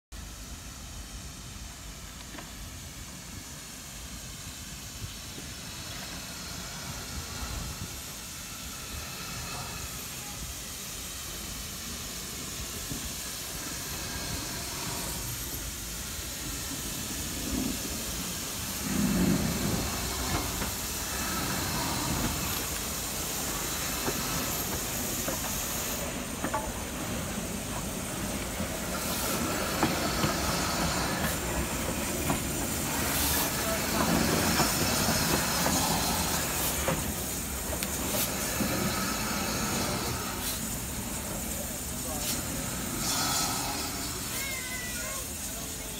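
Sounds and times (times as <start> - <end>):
steam locomotive hissing: 0.2 - 45.9.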